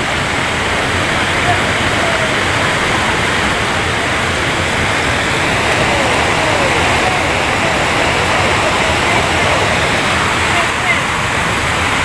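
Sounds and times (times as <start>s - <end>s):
faint crowd voices: 0.0s - 12.0s
rushing water: 0.0s - 12.0s.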